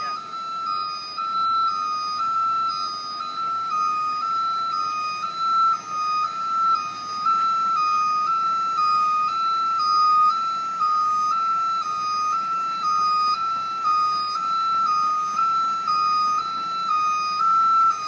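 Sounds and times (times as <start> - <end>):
two-tone electronic warning alarm: 0.0 - 18.0.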